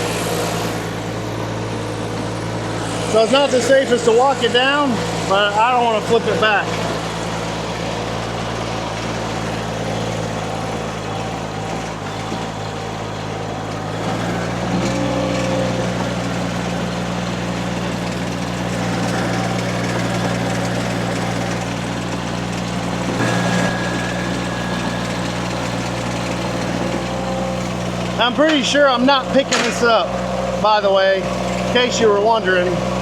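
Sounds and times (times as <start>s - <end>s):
mini skid steer engine running: 0.0s - 33.0s.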